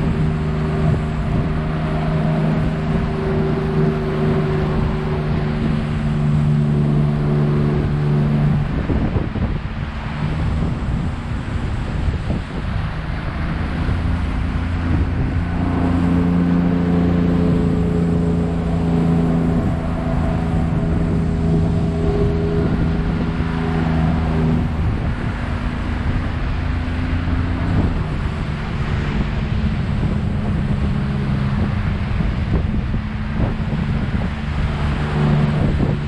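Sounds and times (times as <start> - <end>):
outboard motor running: 0.0 - 36.0
water slapping along hull: 0.0 - 36.0
wind buffeting microphone: 0.0 - 36.0.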